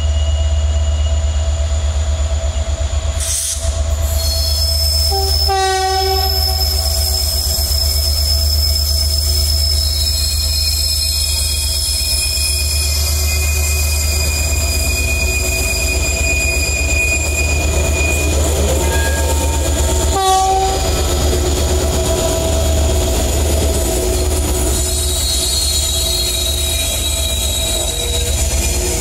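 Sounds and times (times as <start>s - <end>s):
diesel locomotive engine rumble: 0.0s - 29.0s
train wheels squealing on track: 0.0s - 29.0s.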